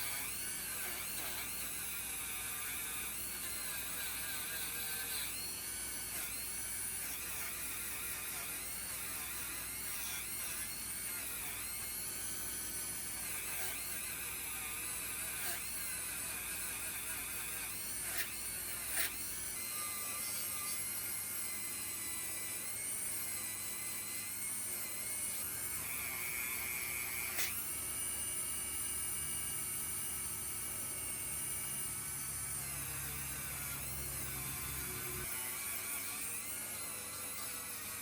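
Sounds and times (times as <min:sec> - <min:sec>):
rotary tool whining: 0:00.0 - 0:38.0.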